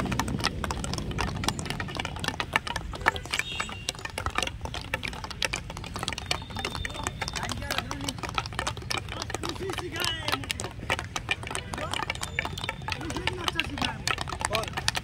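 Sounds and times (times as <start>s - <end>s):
hockey sticks tapping balls: 0.0s - 15.0s.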